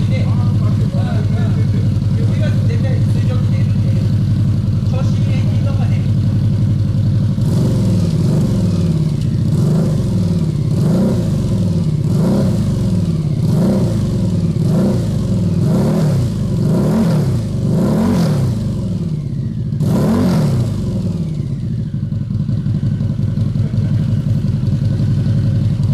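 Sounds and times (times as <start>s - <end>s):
motorcycle engine idling: 0.0s - 25.9s
motorcycle engine revving: 0.0s - 25.9s.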